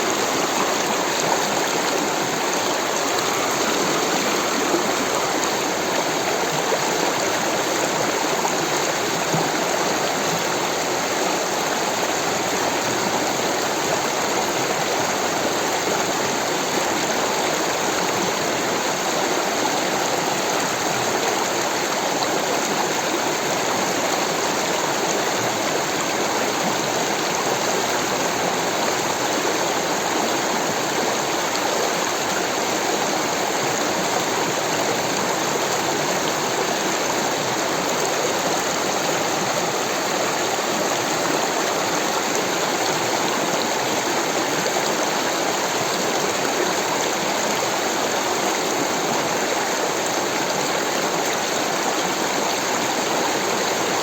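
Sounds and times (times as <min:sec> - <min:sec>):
stream rushing water: 0:00.0 - 0:54.0.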